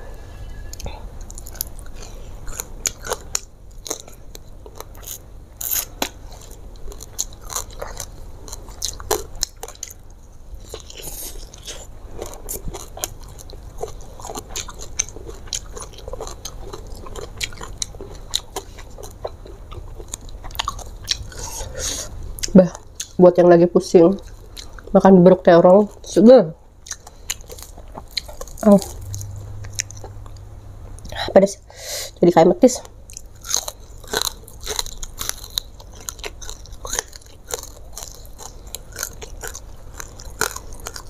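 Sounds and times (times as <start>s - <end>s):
person chewing: 0.6s - 23.2s, 24.2s - 25.0s, 26.8s - 31.2s, 32.8s - 41.0s
food crunching: 0.7s - 23.2s, 24.1s - 25.0s, 26.8s - 31.2s, 32.8s - 41.0s.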